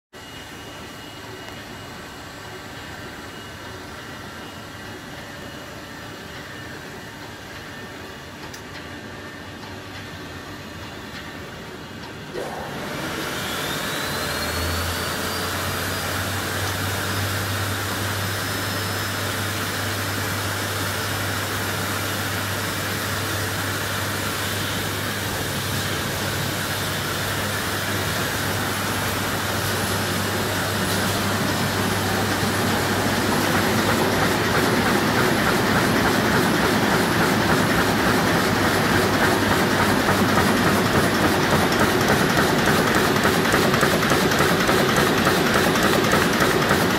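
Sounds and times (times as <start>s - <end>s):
printing press running: 0.2s - 46.9s.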